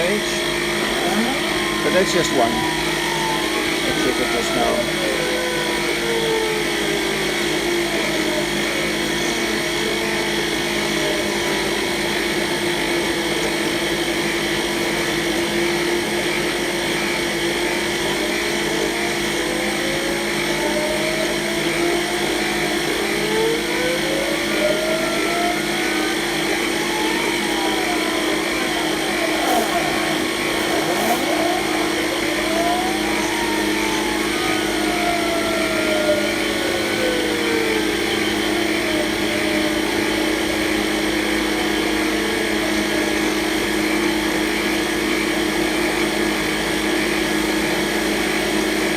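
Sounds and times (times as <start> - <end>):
drive motor whine: 0.0 - 48.9
mill spindle running: 0.0 - 48.9.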